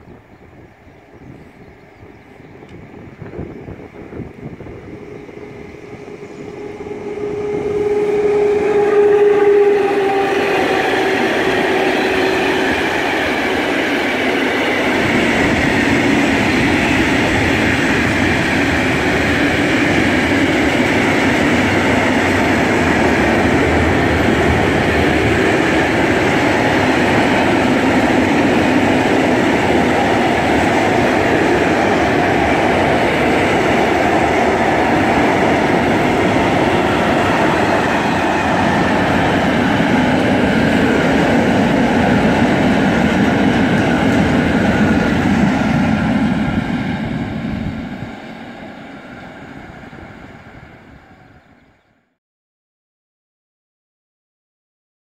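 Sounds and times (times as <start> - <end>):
freight train rolling past: 0.0 - 51.9
steel wheels on rails: 3.9 - 49.6.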